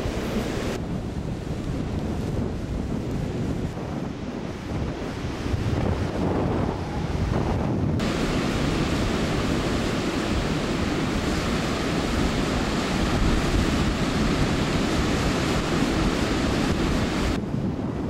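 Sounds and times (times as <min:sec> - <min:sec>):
storm waves breaking: 0:00.0 - 0:18.0
strong wind buffeting microphone: 0:00.0 - 0:18.0.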